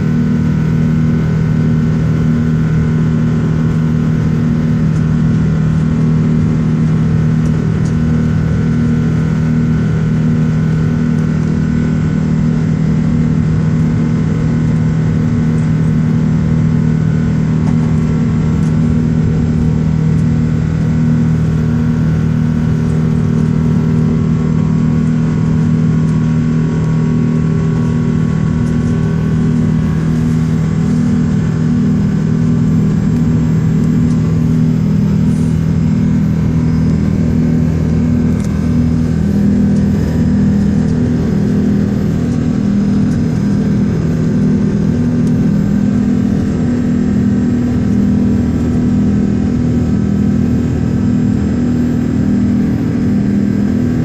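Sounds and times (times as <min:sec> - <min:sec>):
jet engines drone: 0:00.0 - 0:54.0.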